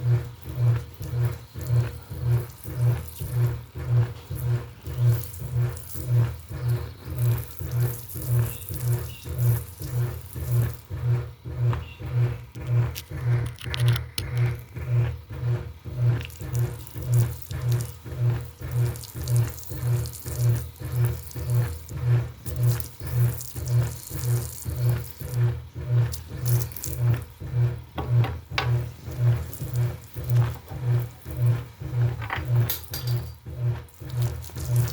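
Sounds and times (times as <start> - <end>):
washing machine motor hum: 0.0 - 34.9.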